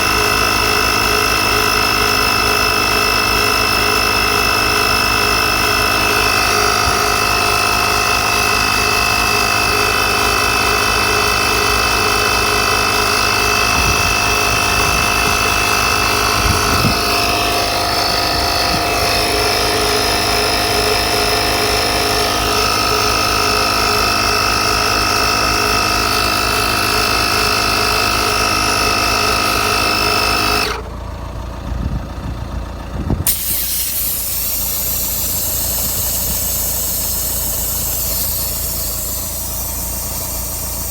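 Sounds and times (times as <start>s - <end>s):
air compressor running: 0.0s - 40.9s.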